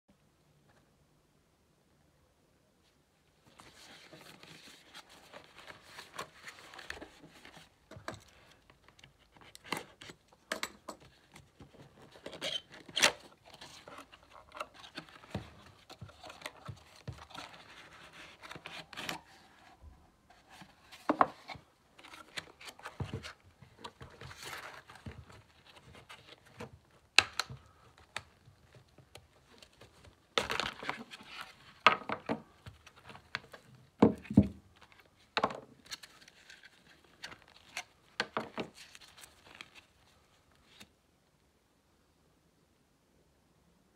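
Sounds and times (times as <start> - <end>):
packaging rustling and crinkling: 3.5 - 40.9.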